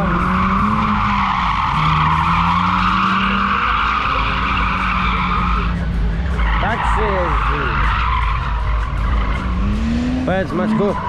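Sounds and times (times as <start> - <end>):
car engine running: 0.0 - 11.0
tyres screeching: 0.0 - 11.0.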